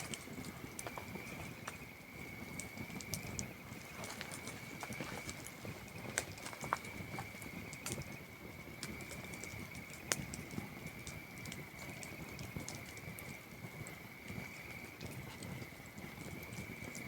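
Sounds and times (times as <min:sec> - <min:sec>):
campfire crackling and popping: 0:00.0 - 0:17.0
crickets trilling: 0:00.0 - 0:17.0.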